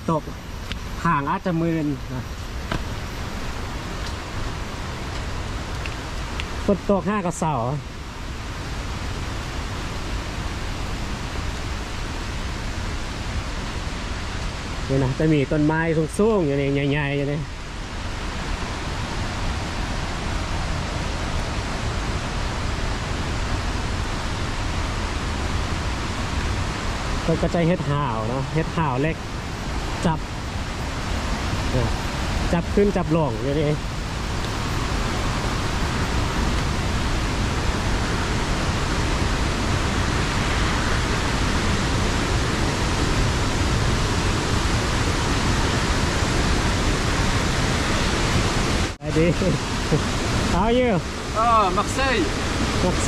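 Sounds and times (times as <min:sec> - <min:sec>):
falling water rushing: 0:00.0 - 0:53.0.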